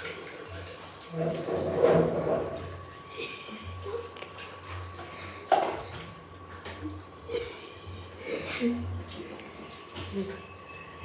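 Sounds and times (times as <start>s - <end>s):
water splashing in sink: 0.0s - 11.0s.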